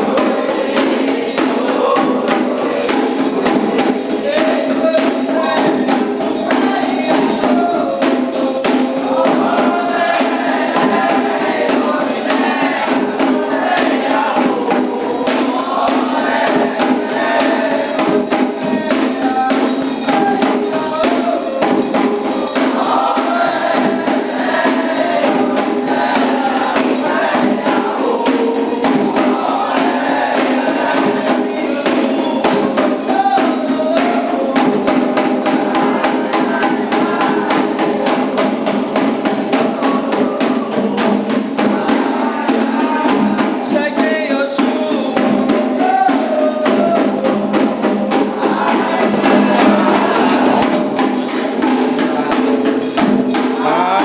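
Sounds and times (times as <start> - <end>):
group singing a chant: 0.0 - 54.0
hand percussion: 0.0 - 54.0
jingling percussion: 0.0 - 54.0.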